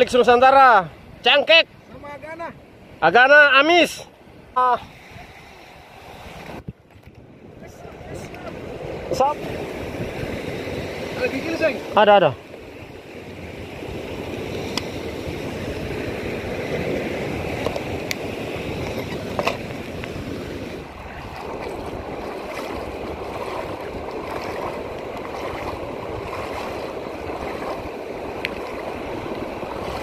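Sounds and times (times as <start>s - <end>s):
shallow surf washing: 0.0s - 30.0s
waves breaking: 0.0s - 30.0s.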